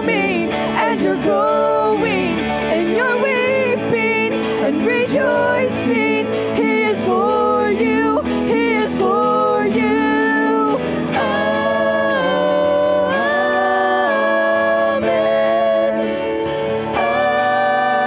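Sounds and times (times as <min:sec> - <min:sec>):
electric guitar: 0:00.0 - 0:18.0
keyboard: 0:00.0 - 0:18.0
man and woman singing together: 0:00.0 - 0:18.0.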